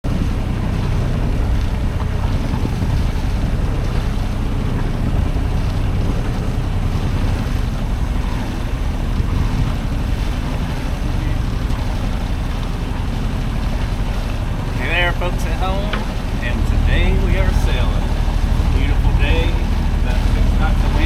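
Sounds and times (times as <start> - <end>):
low rumble: 0.0 - 21.0
wind on microphone: 0.0 - 21.0.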